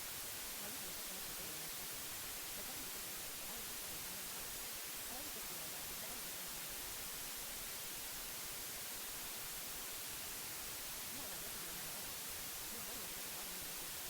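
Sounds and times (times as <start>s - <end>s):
white noise hiss: 0.0s - 14.0s.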